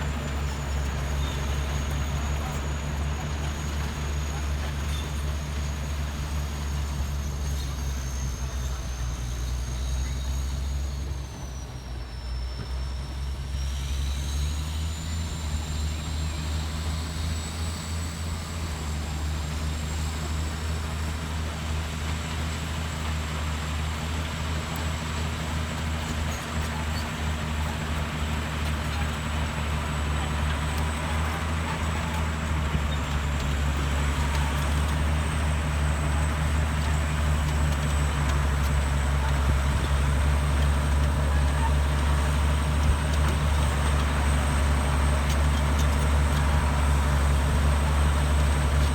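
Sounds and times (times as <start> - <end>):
bulldozer diesel engine whining: 0.0 - 48.9.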